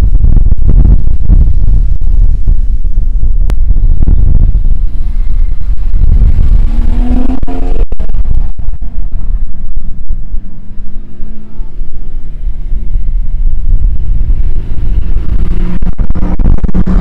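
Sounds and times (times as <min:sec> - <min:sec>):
heavy low rumble: 0:00.0 - 0:17.0
second car engine: 0:00.3 - 0:17.0.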